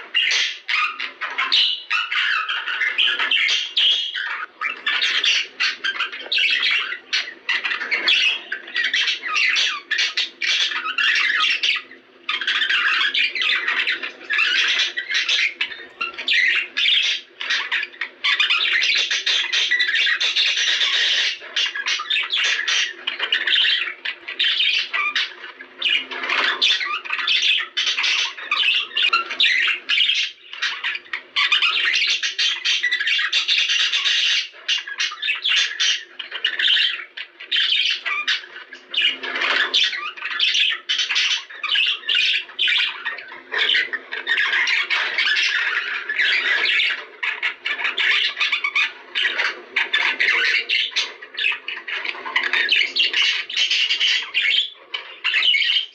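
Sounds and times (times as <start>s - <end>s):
budgerigars chattering and squawking: 0.0s - 55.9s.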